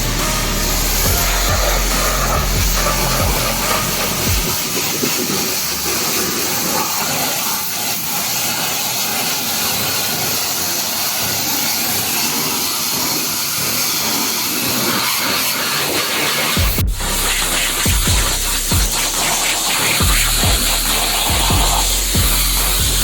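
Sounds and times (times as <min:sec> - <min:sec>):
pressure washer spraying water: 0:00.0 - 0:23.0.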